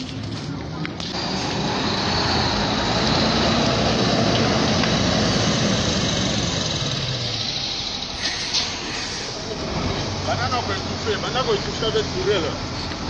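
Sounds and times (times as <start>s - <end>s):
large engine running with whine: 1.0s - 13.0s.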